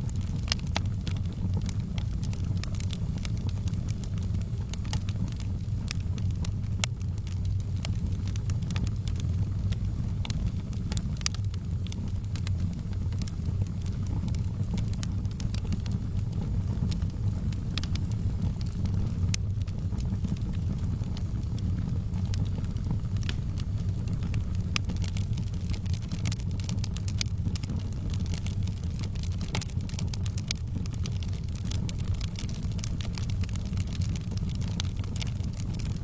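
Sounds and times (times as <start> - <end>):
fire low rumble: 0.0 - 36.0
wood fire crackling and popping: 0.0 - 36.0.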